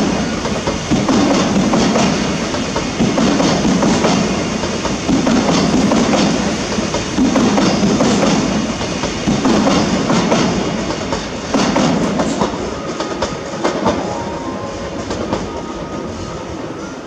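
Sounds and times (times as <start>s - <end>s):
train wheels clattering: 0.0s - 17.0s.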